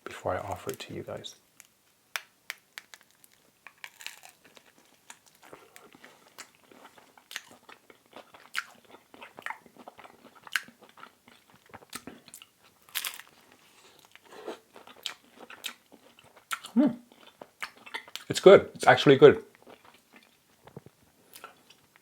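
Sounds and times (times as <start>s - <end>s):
person chewing crisp food: 2.8s - 18.3s, 19.5s - 22.0s.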